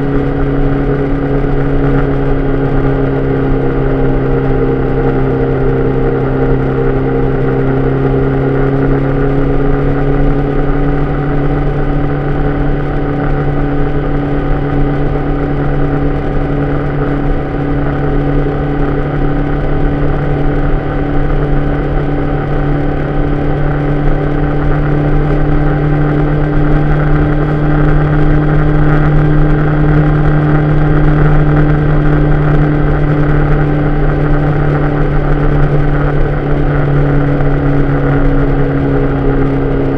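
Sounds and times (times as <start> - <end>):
road noise: 0.0 - 39.9
vehicle engine cruising: 0.0 - 39.9
wind noise: 0.0 - 39.9.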